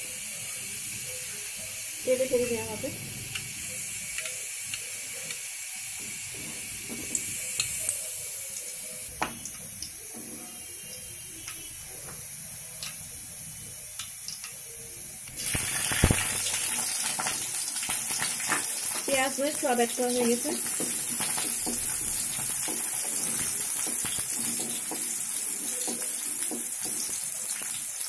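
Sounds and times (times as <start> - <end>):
chillies sizzling in oil: 0.0 - 28.0.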